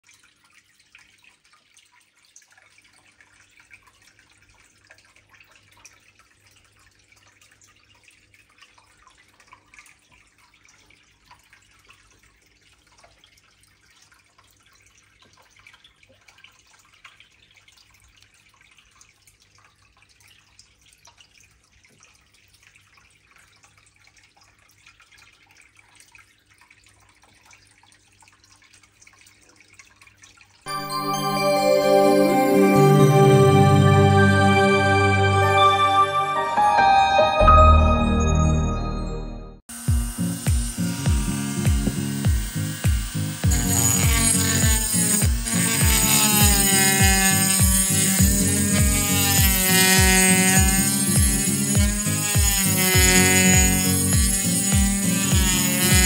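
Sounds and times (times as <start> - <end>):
water trickling and dripping: 0.0 - 30.8, 40.4 - 56.0.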